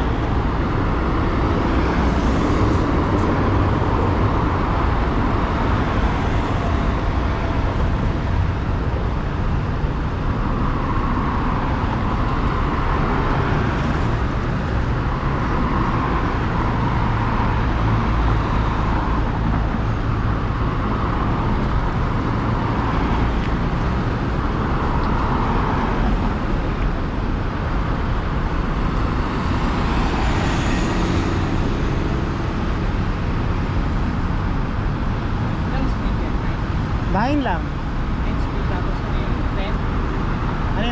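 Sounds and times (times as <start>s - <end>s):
road traffic rumble: 0.0s - 40.9s.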